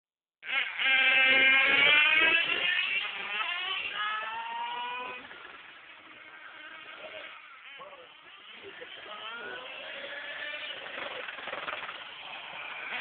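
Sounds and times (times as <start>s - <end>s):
radio-controlled car motor whine: 0.4s - 13.0s.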